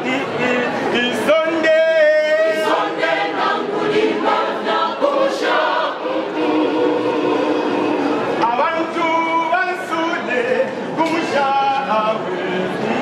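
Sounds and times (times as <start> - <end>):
church choir singing in harmony: 0.0 - 13.0.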